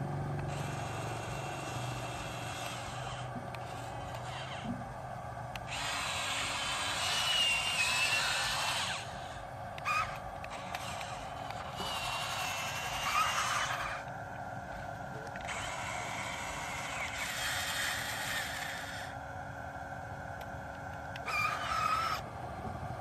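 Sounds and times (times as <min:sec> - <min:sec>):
small gear motors whirring: 0:00.0 - 0:23.0
steady low hum: 0:00.0 - 0:23.0.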